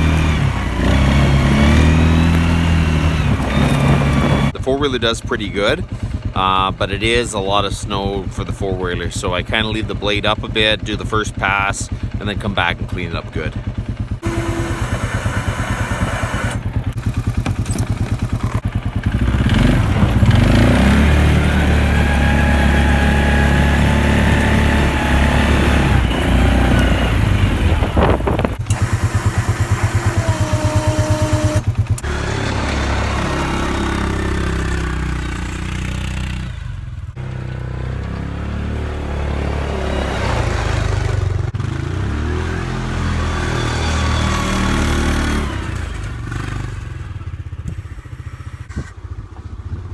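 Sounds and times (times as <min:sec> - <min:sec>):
atv engine running under load: 0:00.0 - 0:49.9.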